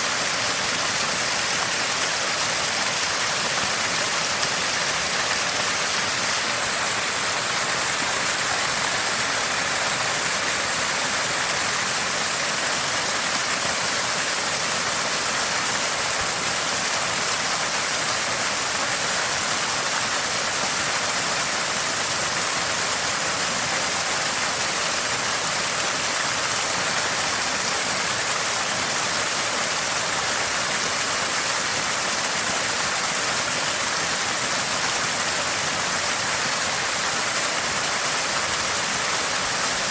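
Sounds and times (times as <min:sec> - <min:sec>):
spring water gushing and splashing: 0:00.0 - 0:39.9.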